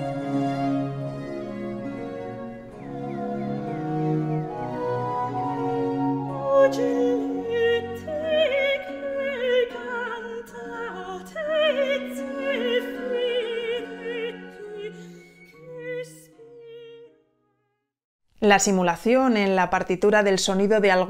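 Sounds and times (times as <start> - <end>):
classical music with vibrato melody: 0.0 - 17.1.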